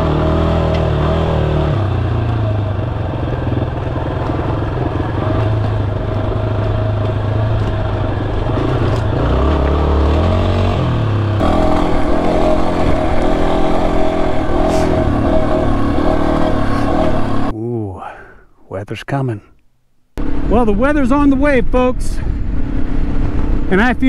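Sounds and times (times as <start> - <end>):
motorcycle engine running: 0.0 - 17.5, 20.2 - 24.0.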